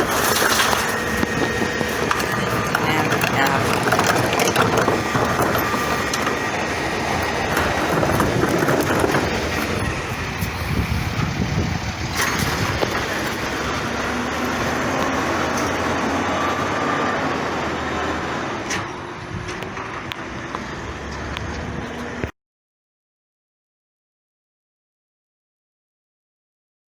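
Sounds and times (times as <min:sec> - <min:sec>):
garbage truck engine running: 0:00.0 - 0:22.3.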